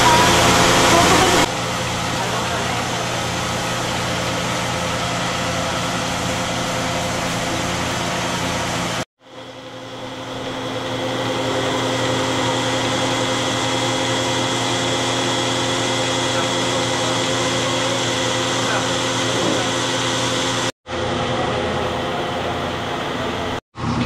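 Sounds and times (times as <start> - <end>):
vacuum pump humming: 0.0 - 24.0.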